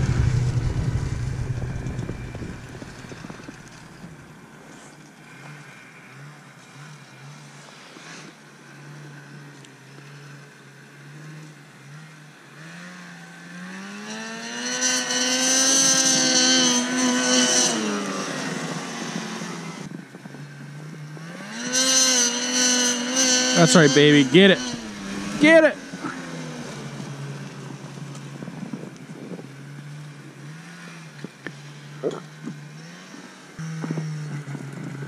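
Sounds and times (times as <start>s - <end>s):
distant snowmobile engine revving: 0.0s - 8.3s, 11.1s - 19.9s, 20.9s - 28.8s, 29.8s - 35.0s.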